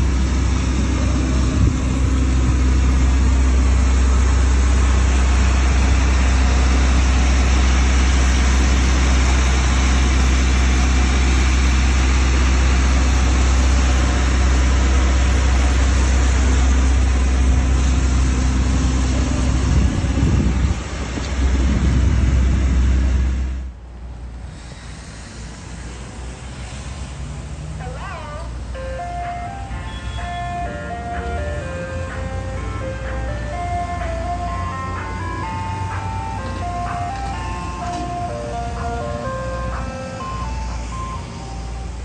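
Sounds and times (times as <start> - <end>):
vehicle engine humming: 0.0 - 42.0.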